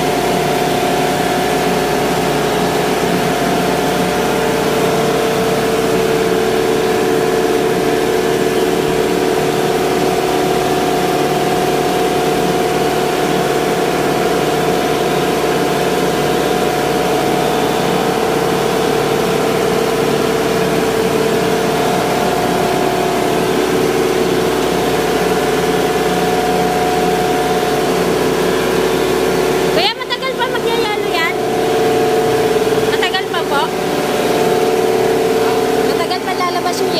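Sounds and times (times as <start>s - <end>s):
industrial machine hum: 0.0s - 36.9s.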